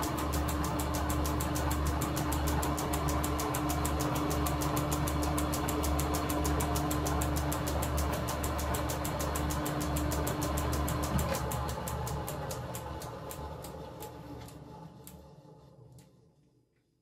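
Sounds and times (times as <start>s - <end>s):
rapid even ticking: 0.0s - 14.2s
lathe motor hum: 0.0s - 15.9s.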